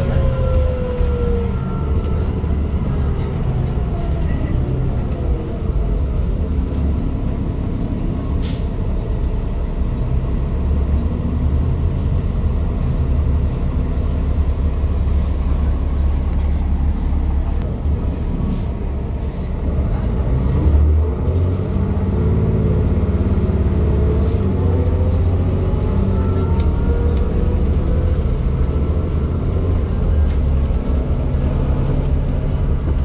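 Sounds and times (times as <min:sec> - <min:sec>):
bus engine running: 0:00.0 - 0:33.0
road noise rumble: 0:00.0 - 0:33.0.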